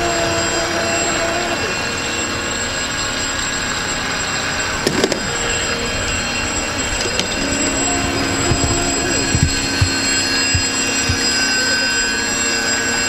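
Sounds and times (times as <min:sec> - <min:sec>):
model boat motors whining: 0:00.0 - 0:13.0.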